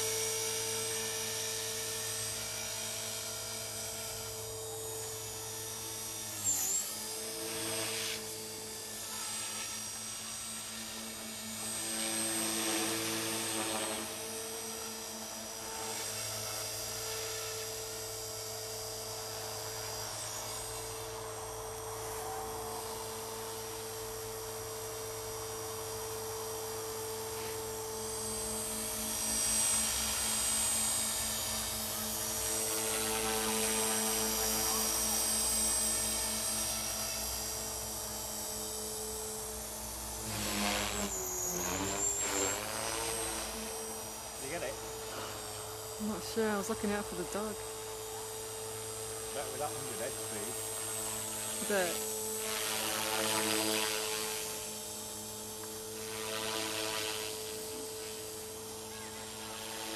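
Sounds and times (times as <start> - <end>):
rc helicopter motor whine: 0.0 - 59.9
rotor blades buzzing: 0.0 - 59.9.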